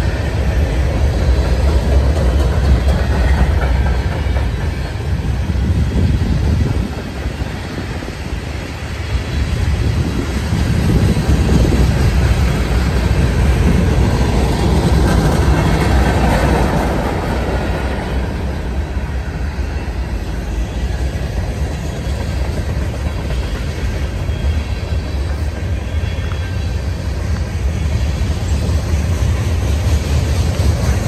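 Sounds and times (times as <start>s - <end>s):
freight train rumbling past: 0.0s - 31.0s.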